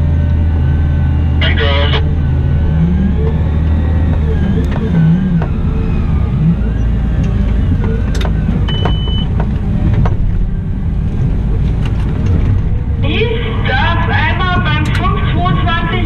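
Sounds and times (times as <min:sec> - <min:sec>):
wheel loader diesel engine: 0:00.0 - 0:16.0.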